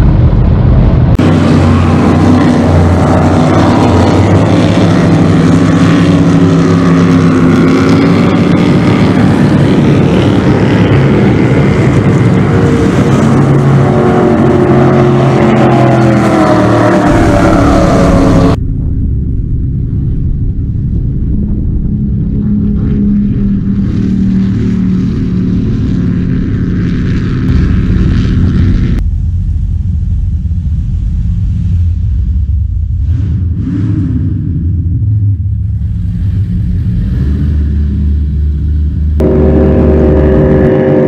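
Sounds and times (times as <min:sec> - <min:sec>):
powerboat engine low rumble: 0:00.0 - 0:41.0
powerboat engines running fast: 0:00.0 - 0:41.0.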